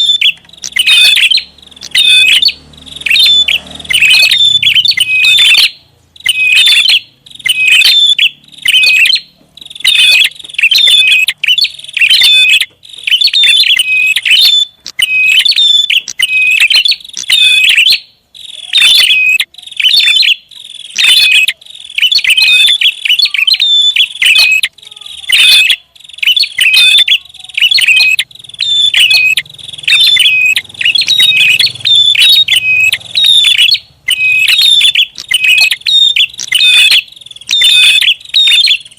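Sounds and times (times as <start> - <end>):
bird chirping rapidly: 0.0 - 38.9.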